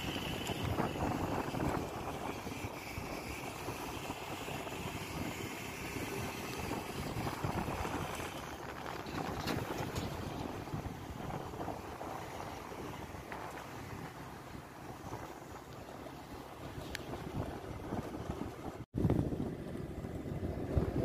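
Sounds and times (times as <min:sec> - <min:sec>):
rushing wind: 0:00.0 - 0:21.0
vehicle road noise: 0:00.0 - 0:21.0
wind buffeting microphone: 0:00.0 - 0:21.0.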